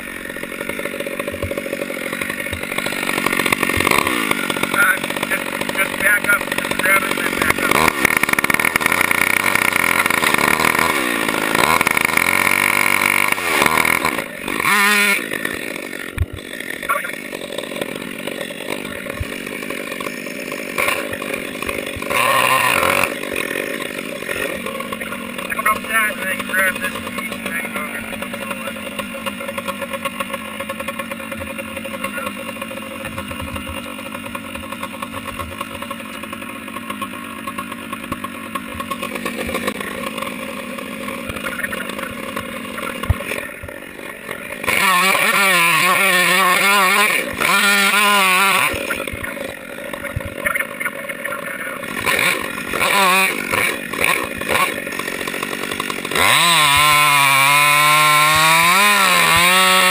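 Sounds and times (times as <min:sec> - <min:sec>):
chainsaw revving: 0:00.0 - 0:59.9
engine running steadily: 0:00.0 - 0:59.9.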